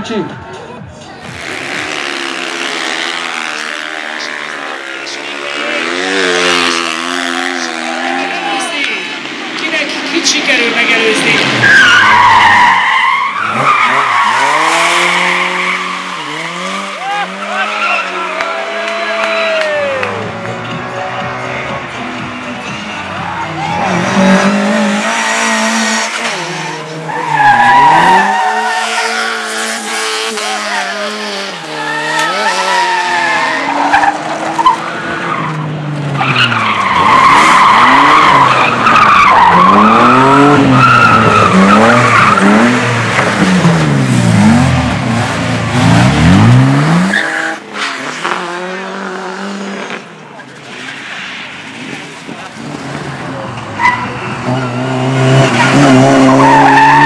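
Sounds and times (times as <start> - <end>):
race car engines revving: 0.0 - 57.0
tyres skidding and squealing: 0.0 - 57.0.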